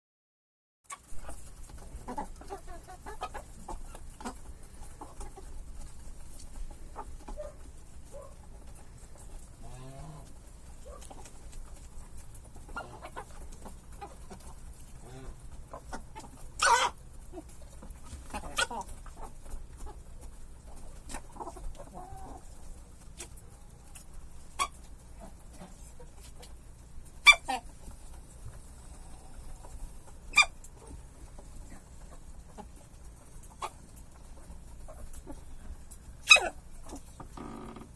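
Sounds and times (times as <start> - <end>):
chickens clucking: 0.9 - 37.9.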